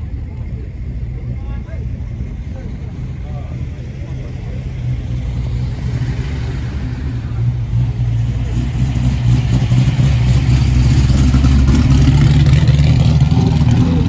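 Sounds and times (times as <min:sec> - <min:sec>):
motor vehicle rumble: 0:00.0 - 0:14.0.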